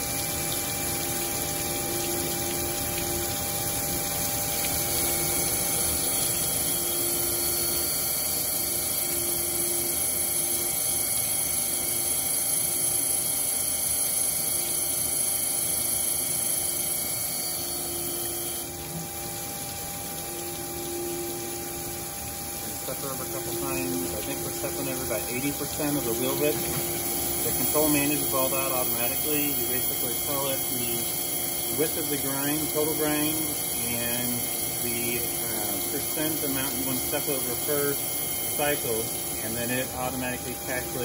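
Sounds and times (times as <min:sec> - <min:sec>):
grinding and coolant hiss: 0:00.0 - 0:41.0
machine hum: 0:00.0 - 0:41.0.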